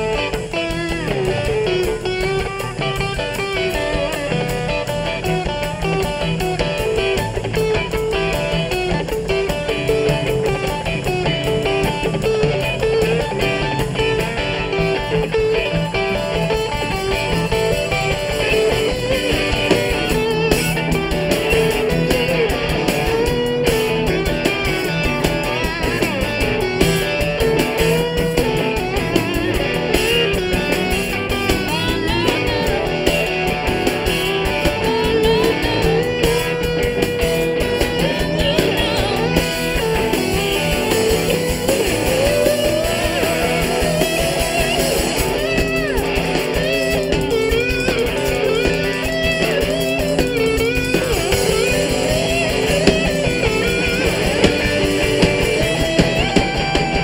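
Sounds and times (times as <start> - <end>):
bass guitar: 0.0 - 57.0
drum kit: 0.0 - 57.0
electric dobro: 0.0 - 57.0
electric guitar: 0.0 - 57.0.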